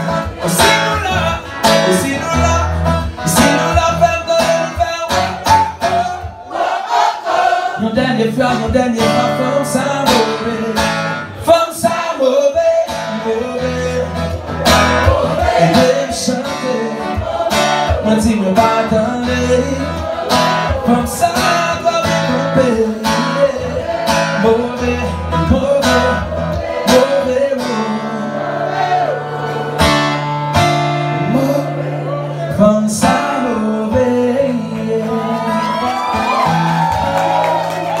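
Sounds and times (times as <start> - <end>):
man singing: 0.0 - 6.5, 7.8 - 30.0, 30.9 - 36.5
strummed acoustic guitar: 0.0 - 38.0.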